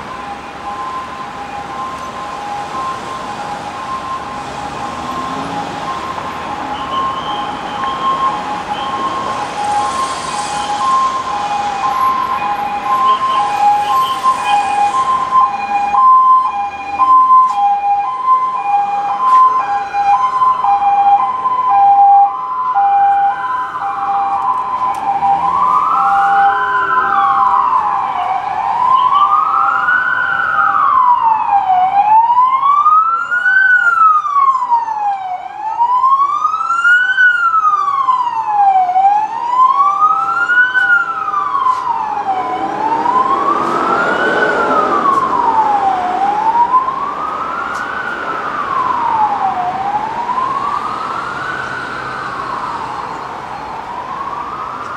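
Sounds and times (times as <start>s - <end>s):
two-tone hi-lo siren: 0.0s - 54.9s
wailing siren: 0.0s - 54.9s.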